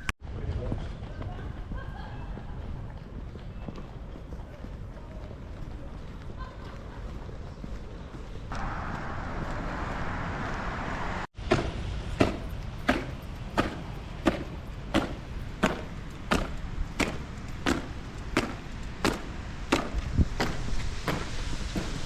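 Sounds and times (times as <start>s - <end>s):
marching footsteps on hard ground: 0.4s - 9.7s, 11.3s - 22.0s.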